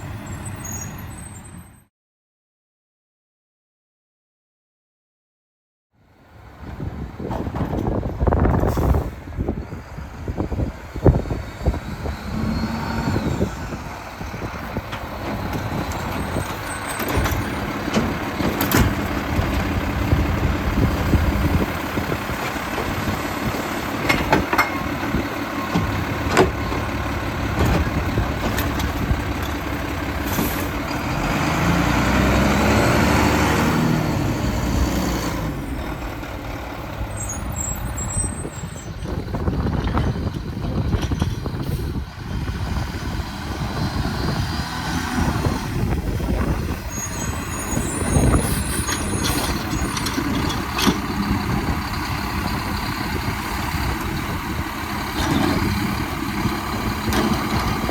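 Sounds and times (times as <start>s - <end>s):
garbage truck engine running: 6.6s - 57.9s.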